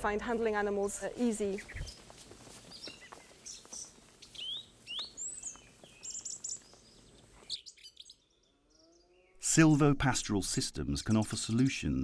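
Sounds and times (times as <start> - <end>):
birds chirping and calling: 0.0 - 10.0, 10.6 - 12.0
faint outdoor hiss: 0.0 - 12.0.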